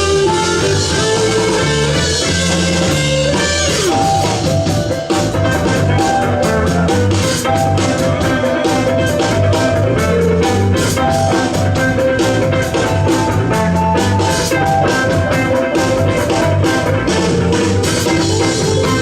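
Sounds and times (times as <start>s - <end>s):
live jazz fusion band: 0.0s - 19.0s.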